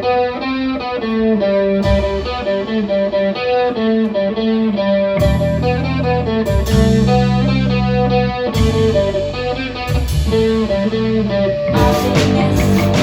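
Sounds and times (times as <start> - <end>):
bass guitar: 0.0 - 13.0
electric guitar single notes: 0.0 - 13.0
full band playing: 0.0 - 13.0.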